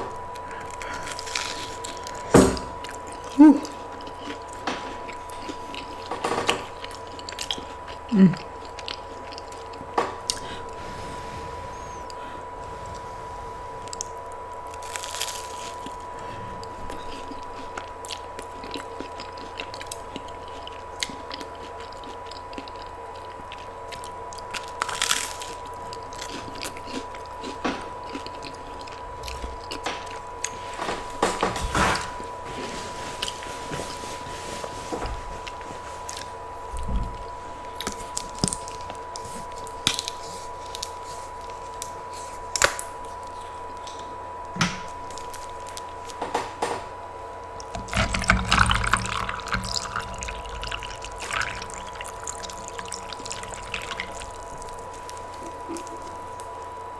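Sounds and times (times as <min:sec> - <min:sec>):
person chewing crunchy food: 0:00.0 - 0:44.2, 0:44.9 - 0:46.2, 0:47.6 - 0:56.9.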